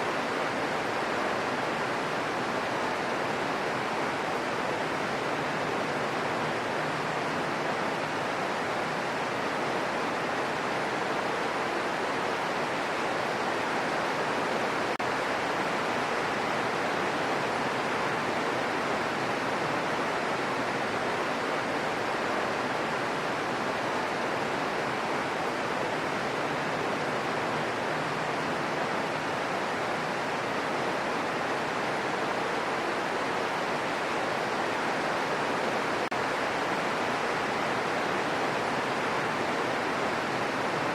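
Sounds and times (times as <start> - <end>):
steady rain in forest: 0.0 - 40.9.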